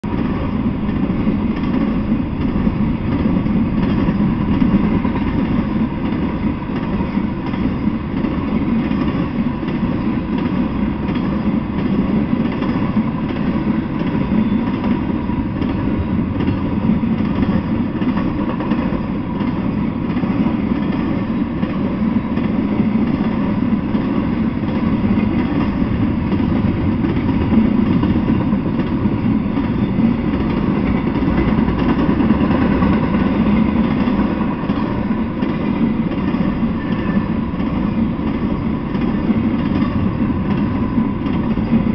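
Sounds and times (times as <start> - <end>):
steel wheels running on rails: 0.1 - 41.9.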